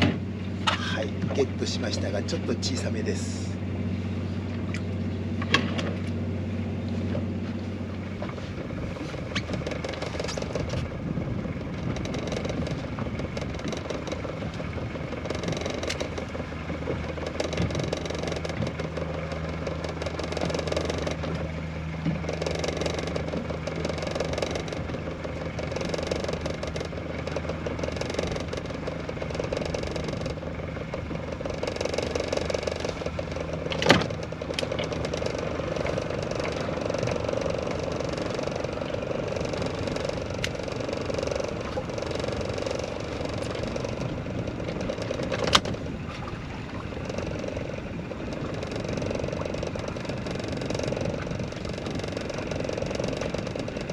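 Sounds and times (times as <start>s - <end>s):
boat engine running: 0.0s - 53.9s
wind and water rushing: 0.0s - 53.9s.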